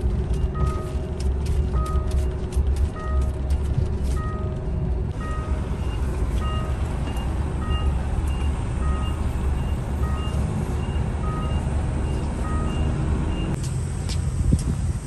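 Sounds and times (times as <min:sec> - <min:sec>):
truck reversing alarm beeping: 0:00.0 - 0:13.6
diesel engine running: 0:00.0 - 0:15.0.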